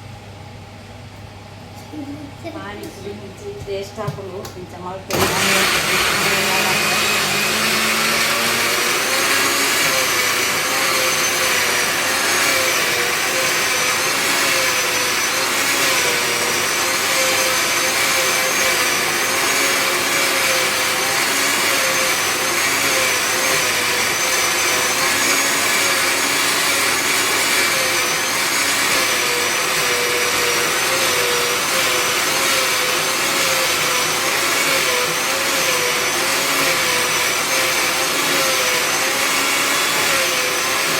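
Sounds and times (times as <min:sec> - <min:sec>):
electric mixer grinder running: 0:03.6 - 0:40.9.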